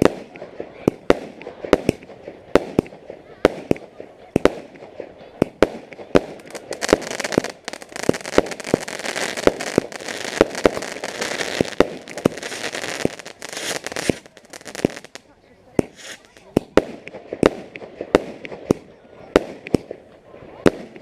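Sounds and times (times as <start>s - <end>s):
fireworks bangs: 0.0s - 21.0s
fireworks crackling hiss: 0.0s - 21.0s.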